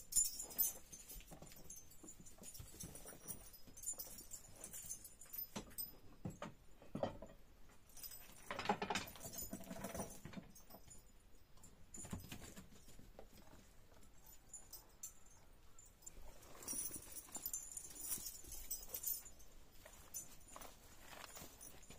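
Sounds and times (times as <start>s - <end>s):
hoof steps and shuffling: 0.0s - 7.0s, 7.6s - 21.9s.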